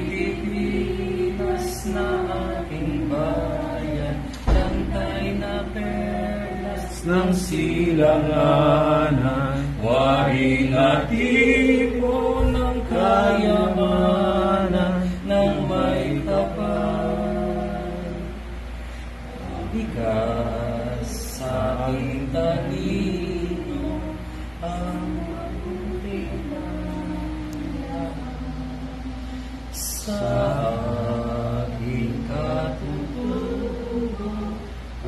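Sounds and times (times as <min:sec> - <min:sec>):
steady low hum: 0:00.0 - 0:35.0
voices singing together: 0:00.0 - 0:35.0.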